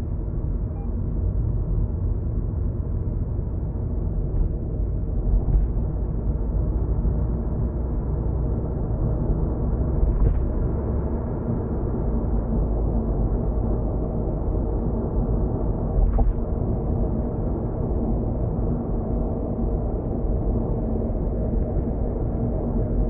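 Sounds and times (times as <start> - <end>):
road and engine rumble in car: 0.0 - 23.0.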